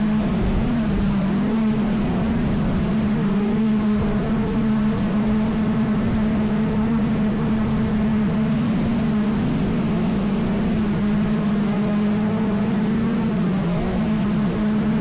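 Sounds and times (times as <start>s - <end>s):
low road rumble: 0.0s - 15.0s
vehicle engine hum: 0.0s - 15.0s.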